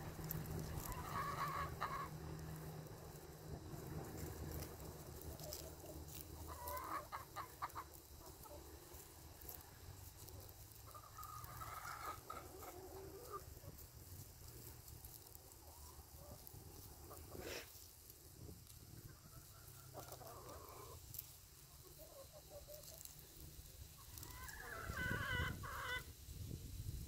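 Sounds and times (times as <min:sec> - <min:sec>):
chickens clucking: 0:00.0 - 0:26.1.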